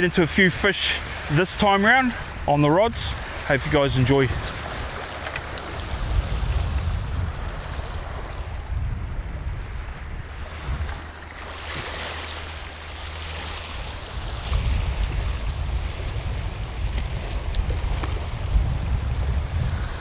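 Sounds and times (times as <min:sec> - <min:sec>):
wind buffeting microphone: 0:01.0 - 0:20.0.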